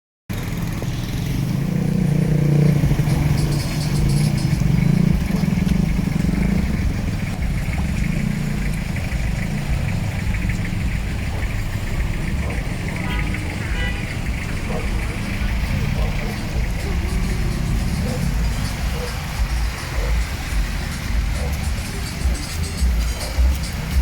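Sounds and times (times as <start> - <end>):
vehicle engine running: 0.3 - 24.0.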